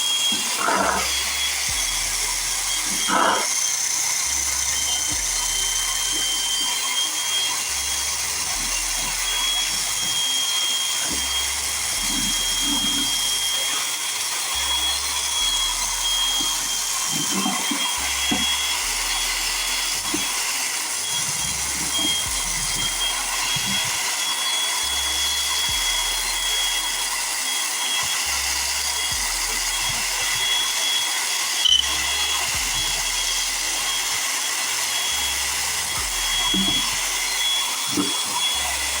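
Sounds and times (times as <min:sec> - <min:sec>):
electric tool motor whining: 0:00.0 - 0:39.0.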